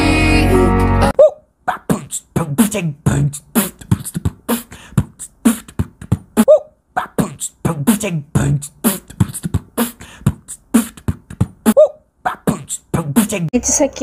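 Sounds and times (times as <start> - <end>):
vocal squeal: 1.1 - 13.4
beatboxing: 1.1 - 13.5.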